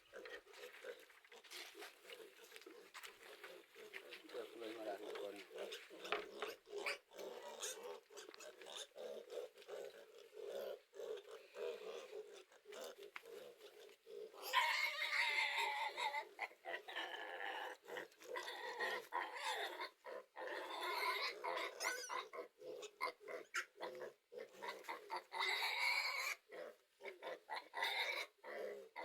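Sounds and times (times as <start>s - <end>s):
pigs squealing: 3.5s - 29.0s.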